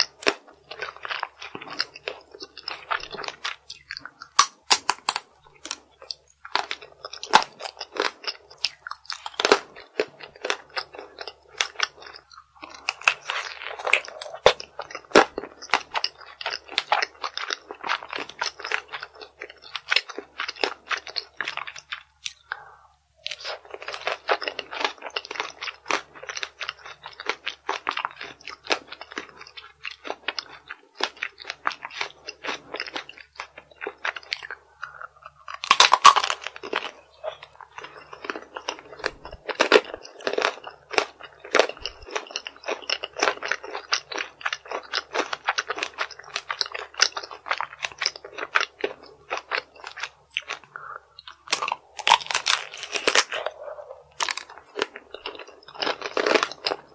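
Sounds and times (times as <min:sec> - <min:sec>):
crunching and chewing candy: 0:00.0 - 0:56.9.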